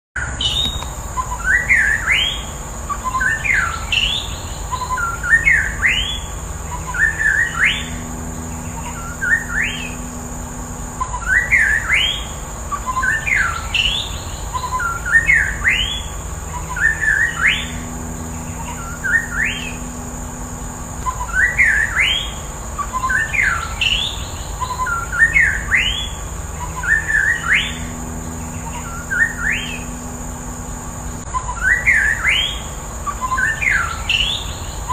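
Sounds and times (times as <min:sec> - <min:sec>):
bird singing whistled notes: 0:00.2 - 0:34.9
steady high-pitched tone: 0:00.2 - 0:34.9.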